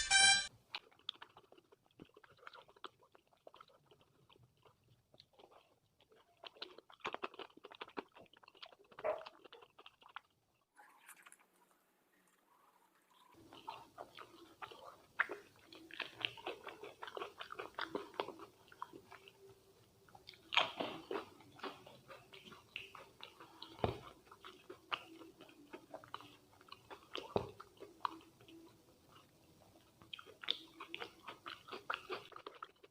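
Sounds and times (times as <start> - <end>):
person chewing food: 0.6 - 10.7, 13.1 - 32.9.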